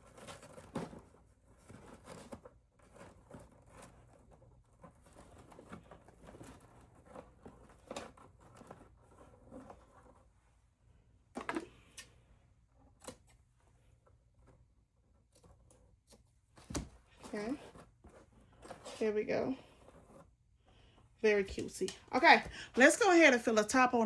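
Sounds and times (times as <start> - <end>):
faint rustling: 0.0 - 24.0.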